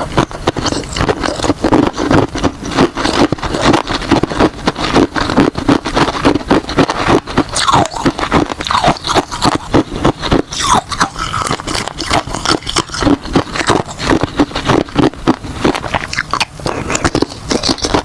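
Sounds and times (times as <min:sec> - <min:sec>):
ice crunching between teeth: 0:00.0 - 0:18.0.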